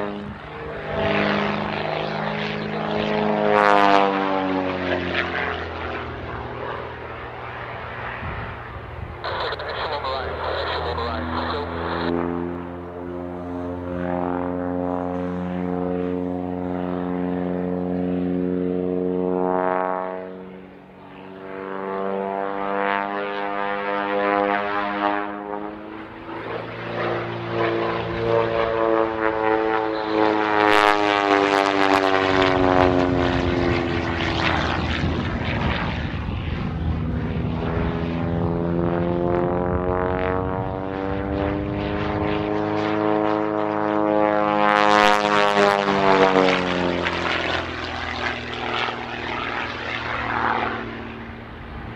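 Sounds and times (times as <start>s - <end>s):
propeller plane engine: 0.0s - 51.9s.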